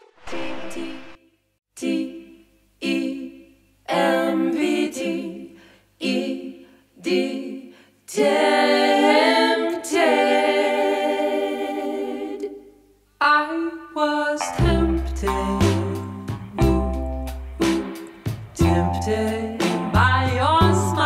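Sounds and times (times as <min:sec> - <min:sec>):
a cappella singing: 0:00.0 - 0:18.0, 0:18.6 - 0:21.0.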